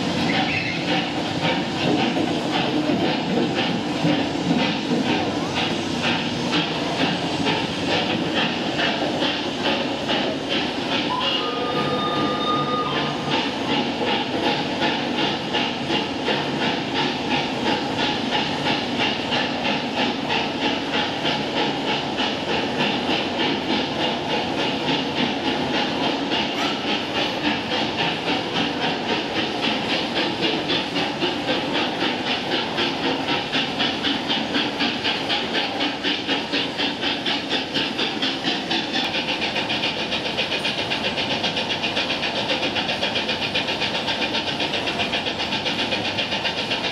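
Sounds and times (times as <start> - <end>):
hissing steam: 0.0 - 46.9
steam locomotive chuffing: 0.0 - 46.9.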